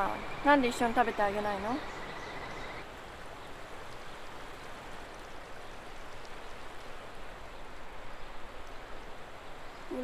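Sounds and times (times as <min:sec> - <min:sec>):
stream flowing over pebbles: 0:00.0 - 0:10.0.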